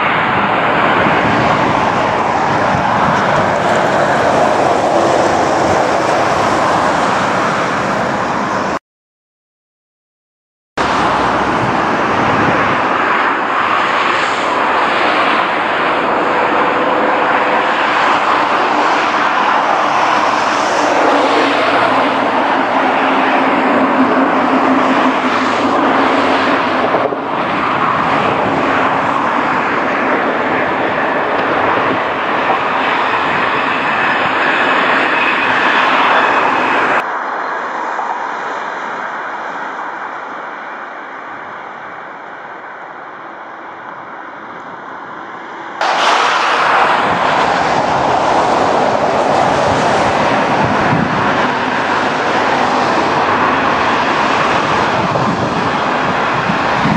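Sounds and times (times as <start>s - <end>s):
electric train rushing past: 0.0s - 8.8s, 10.8s - 40.0s, 44.7s - 56.9s.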